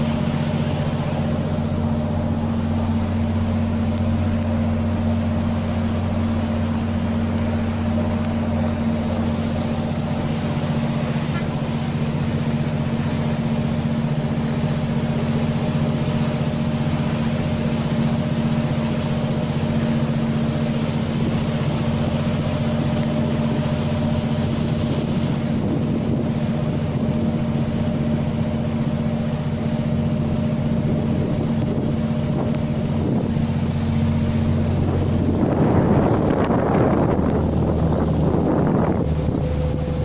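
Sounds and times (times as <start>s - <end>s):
ferry engine low hum: 0.0s - 40.0s
hiss of water and wind: 0.0s - 40.0s.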